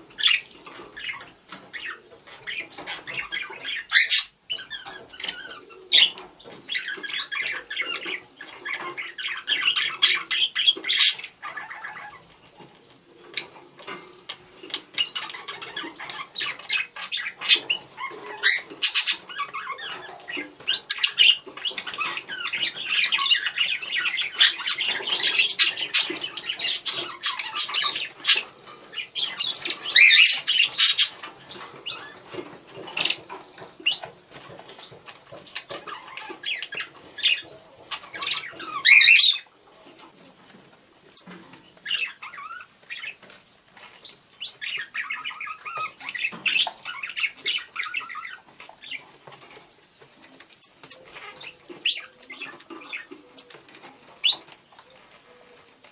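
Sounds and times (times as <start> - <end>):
budgerigars chirping and chattering: 0.0 - 55.9.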